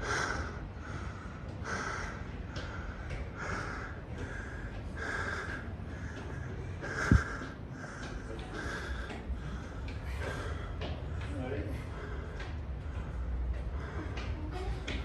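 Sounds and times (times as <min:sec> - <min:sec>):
man panting: 0:00.0 - 0:14.4.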